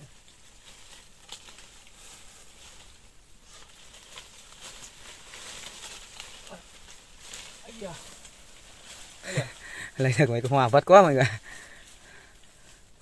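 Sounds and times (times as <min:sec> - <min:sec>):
branch clicks and cracks: 0:00.0 - 0:12.8
rustling of leaves and branches: 0:00.0 - 0:13.0.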